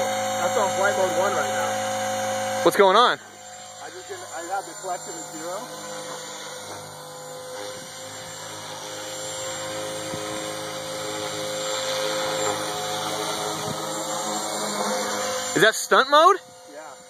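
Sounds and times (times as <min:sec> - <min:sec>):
rc helicopter high whine: 0:00.0 - 0:17.0.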